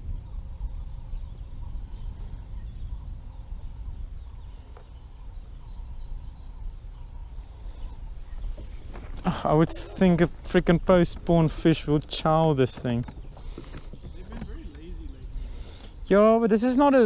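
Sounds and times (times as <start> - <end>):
distant bird calls: 0.0 - 17.0
low outdoor rumble: 0.0 - 17.0.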